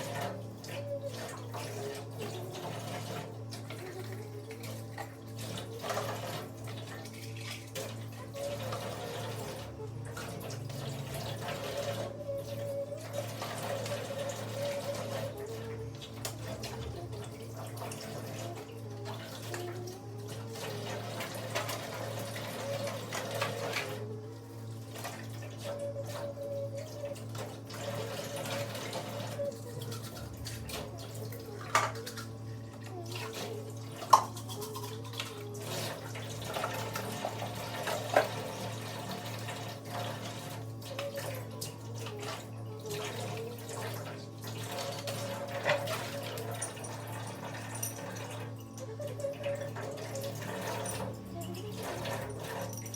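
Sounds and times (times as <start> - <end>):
tap water running into sink: 0.0 - 52.9.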